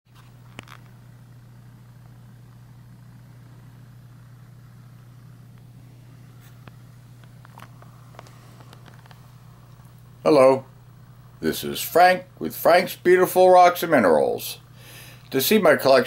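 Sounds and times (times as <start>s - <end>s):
low room hum: 0.1s - 16.0s.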